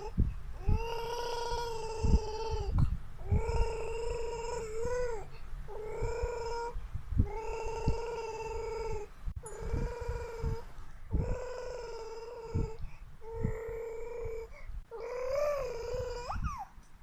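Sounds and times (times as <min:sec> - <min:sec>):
child making buzzing vocal sound: 0:00.0 - 0:16.6.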